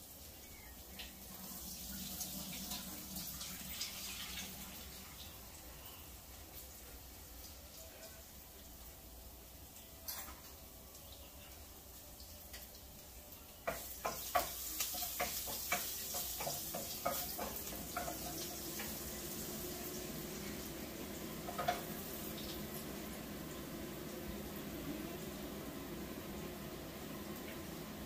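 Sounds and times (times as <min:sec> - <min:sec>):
food sizzling in oil: 0:00.0 - 0:28.0.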